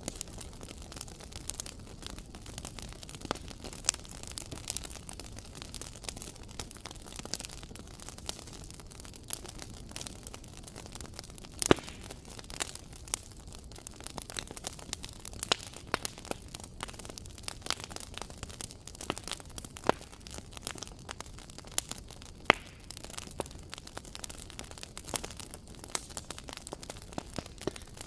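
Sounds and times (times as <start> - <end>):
fire popping: 0.0 - 28.0
wood fire crackling: 0.0 - 28.0.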